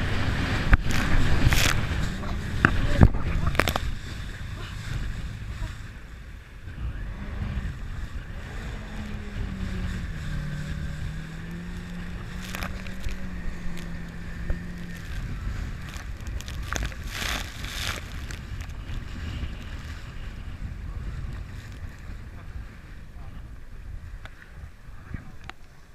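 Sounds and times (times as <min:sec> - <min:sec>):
jet ski engine running: 0:00.0 - 0:25.9
wind buffeting microphone: 0:00.0 - 0:25.9.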